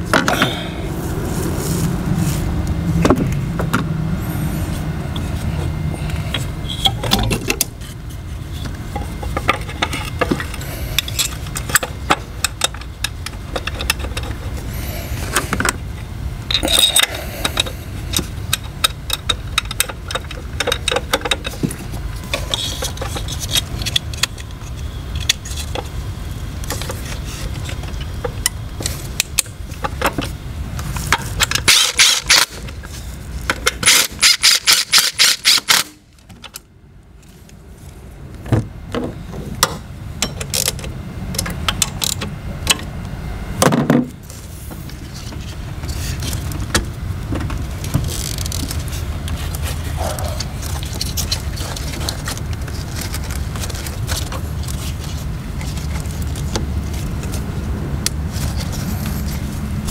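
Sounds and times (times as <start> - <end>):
low hum: 0.0 - 59.9
clicks and knocks of parts: 6.1 - 15.8, 16.5 - 25.9, 26.6 - 37.6, 38.4 - 42.9, 43.6 - 59.9.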